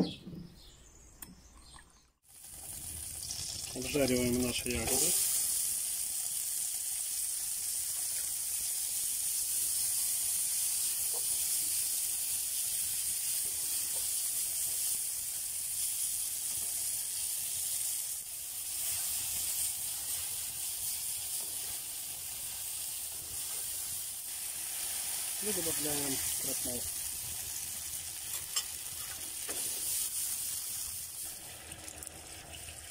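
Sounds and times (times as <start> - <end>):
berries sizzling in a frying pan: 2.2 - 32.9.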